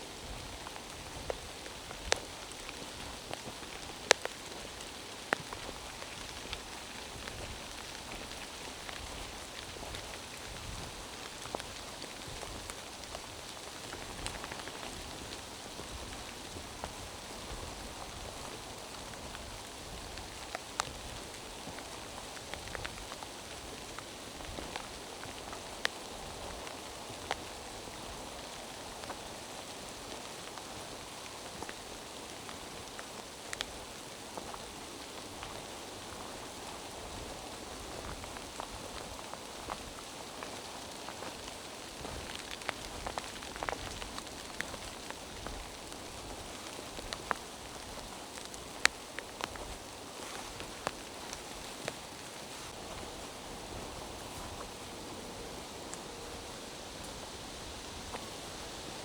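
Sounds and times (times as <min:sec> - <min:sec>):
rain patter in forest: 0:00.0 - 0:59.0.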